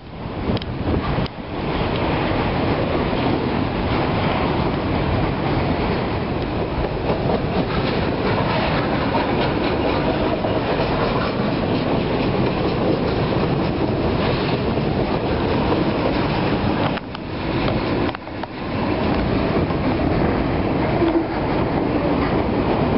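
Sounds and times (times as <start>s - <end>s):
freight train rolling past: 0.0s - 22.9s
wheels clicking over rail joints: 0.4s - 22.9s.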